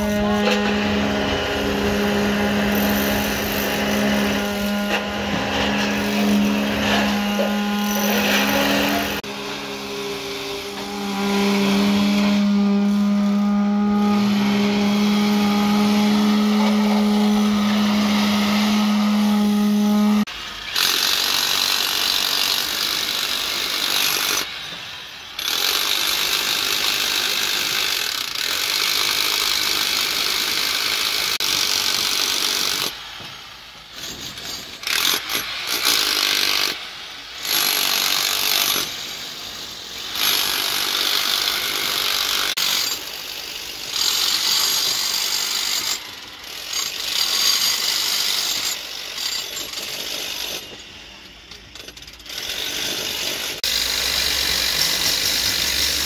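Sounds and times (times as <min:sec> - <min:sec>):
pneumatic chipping hammer on concrete: 0:00.0 - 0:56.0.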